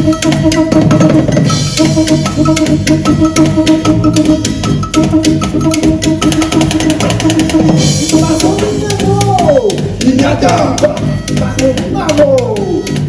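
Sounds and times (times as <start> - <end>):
bass line: 0.0 - 13.0
percussion strikes: 0.0 - 13.0.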